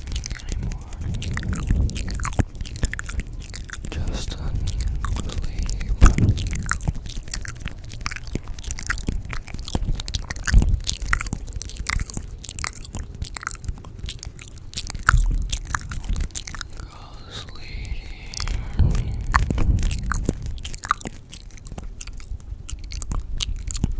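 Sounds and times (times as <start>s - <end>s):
quick crunchy clicks: 0.0s - 23.9s.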